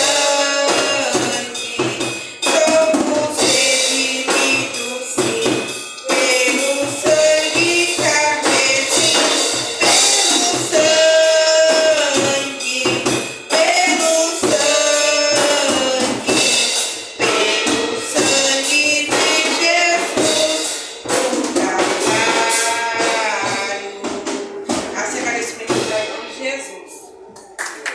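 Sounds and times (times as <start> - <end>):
person singing: 0.0 - 27.6
drums beating: 0.0 - 27.9
worship band playing: 0.0 - 27.9.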